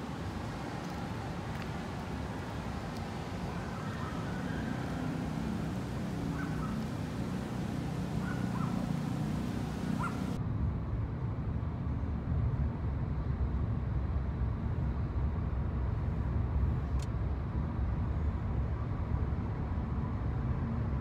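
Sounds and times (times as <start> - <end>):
road rumble inside a taxi: 0.0 - 21.0
street traffic rumble: 0.0 - 21.0.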